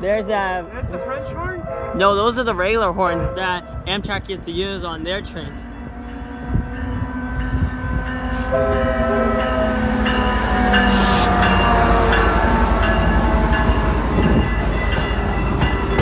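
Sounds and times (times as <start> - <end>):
locomotive air horn chord: 0.9 - 2.4, 3.0 - 14.8
train wheels rumbling and clattering: 1.7 - 16.0.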